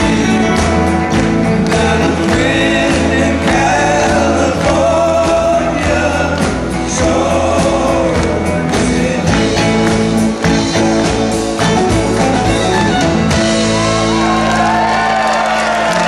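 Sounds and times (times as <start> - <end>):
country band playing: 0.0 - 16.0.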